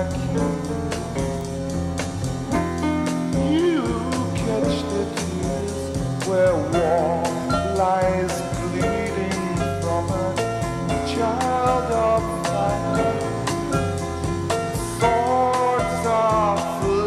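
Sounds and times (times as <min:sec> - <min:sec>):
song with band accompaniment: 0:00.0 - 0:17.0.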